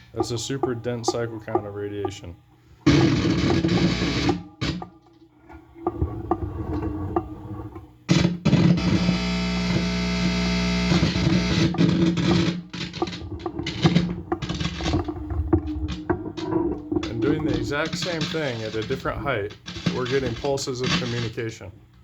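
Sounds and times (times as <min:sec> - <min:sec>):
guitar amplifier hum and crackle: 0:00.0 - 0:22.0.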